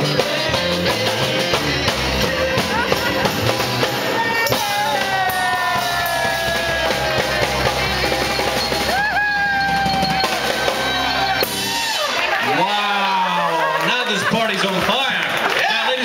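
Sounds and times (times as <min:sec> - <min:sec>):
busy drum beat: 0:00.0 - 0:12.8
rock and roll band playing: 0:00.0 - 0:16.0.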